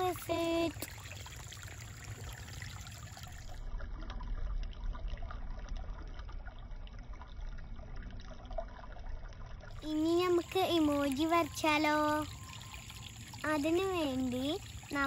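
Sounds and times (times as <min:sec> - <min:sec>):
creek trickling over stones: 0:00.0 - 0:15.0.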